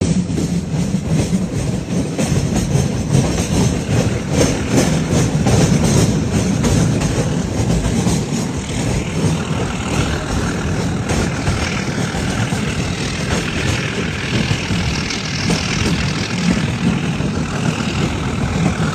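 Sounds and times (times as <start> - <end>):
train rumbling on rails: 0.0 - 18.9
wheels clacking over rail joints: 0.0 - 18.9.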